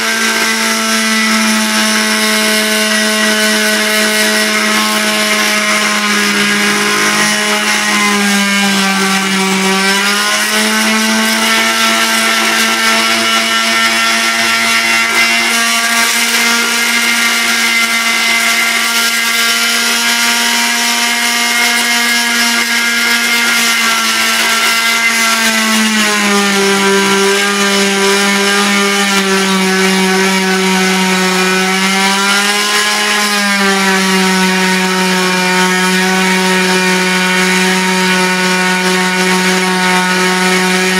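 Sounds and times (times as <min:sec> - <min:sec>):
multi-tool buzzing cutting wood: 0:00.0 - 0:40.9.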